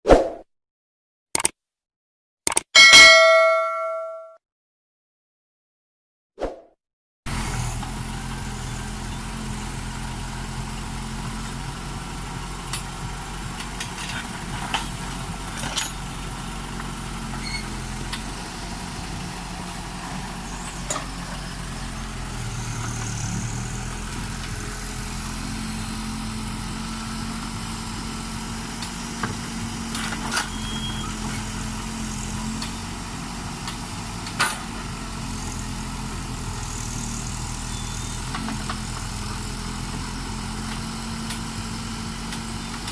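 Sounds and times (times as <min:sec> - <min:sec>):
diesel engine running: 0:07.3 - 0:42.9.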